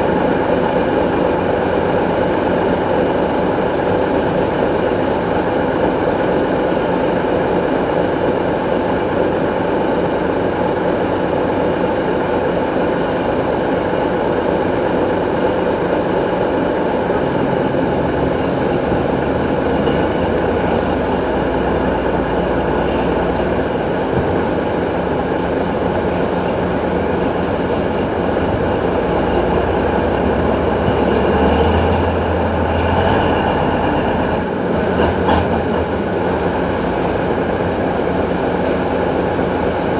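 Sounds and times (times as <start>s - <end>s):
diesel earthmoving machine rumbling: 0.0s - 39.9s.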